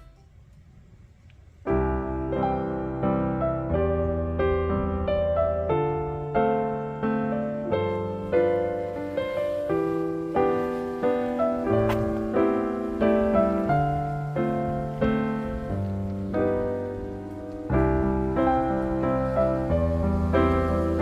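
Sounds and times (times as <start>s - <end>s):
gentle piano music: 0.0s - 0.3s, 1.6s - 21.0s.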